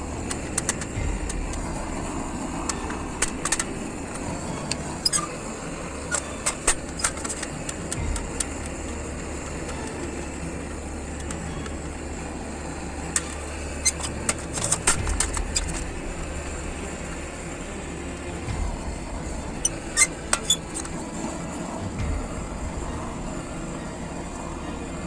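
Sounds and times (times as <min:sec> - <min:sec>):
hammer striking metal grate: 0:00.0 - 0:11.9, 0:13.0 - 0:24.4
low rumble: 0:00.0 - 0:25.0.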